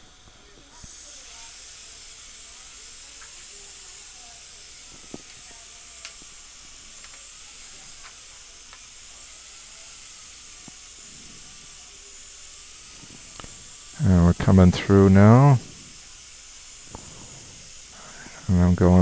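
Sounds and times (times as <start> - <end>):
dental drill cutting metal: 0.0 - 19.0.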